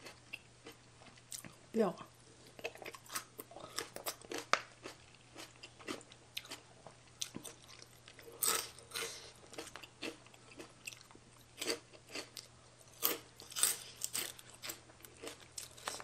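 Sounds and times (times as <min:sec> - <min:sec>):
chewing crunchy food: 0:00.0 - 0:01.6, 0:02.4 - 0:16.0.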